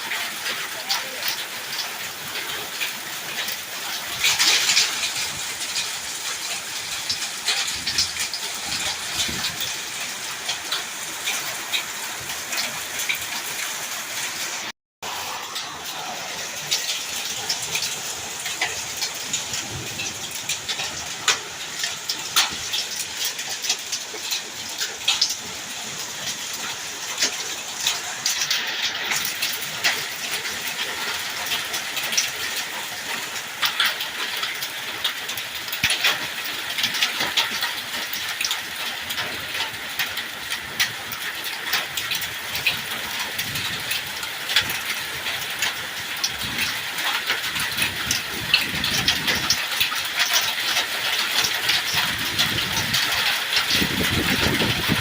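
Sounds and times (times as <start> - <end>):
hailstones striking: 0.0 - 55.0
heavy rain: 0.0 - 55.0.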